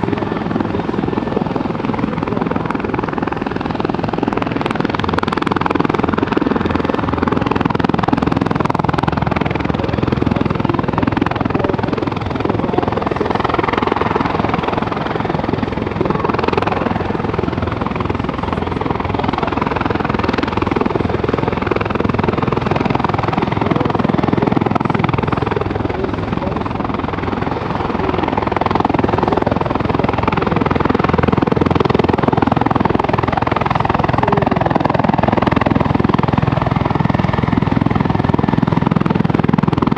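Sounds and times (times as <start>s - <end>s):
helicopter flying overhead: 0.0s - 39.9s.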